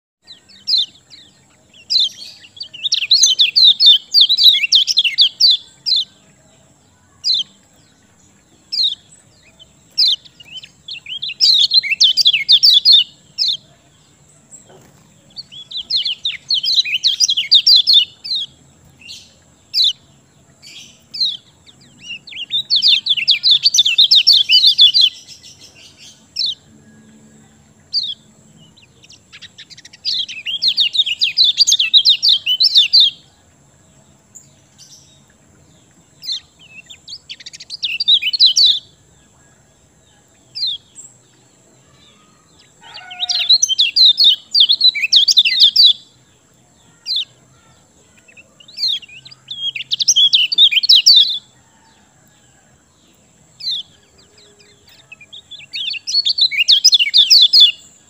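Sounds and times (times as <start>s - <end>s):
songbird twittering: 0.2s - 58.0s.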